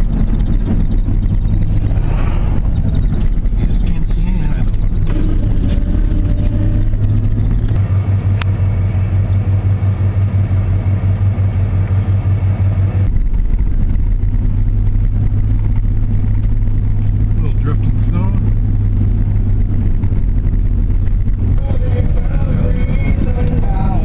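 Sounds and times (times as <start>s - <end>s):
pickup engine drone from inside cab: 0.0s - 24.0s.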